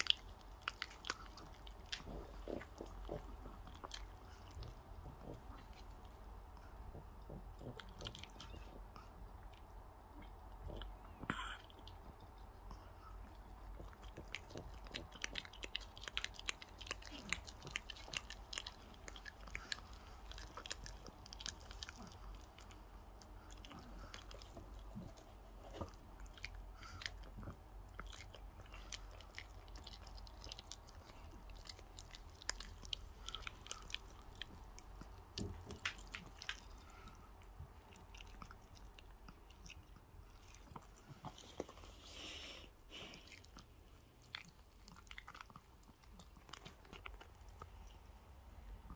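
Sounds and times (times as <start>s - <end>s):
dog chewing bones: 0.0s - 6.0s, 13.6s - 47.9s.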